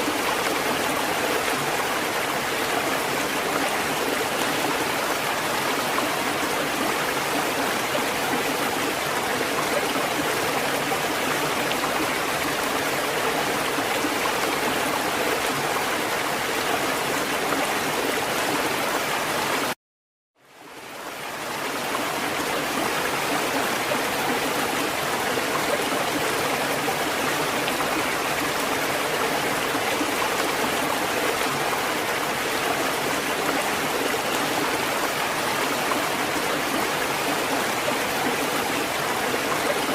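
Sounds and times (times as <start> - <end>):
rushing water: 0.0 - 19.8, 20.4 - 39.9.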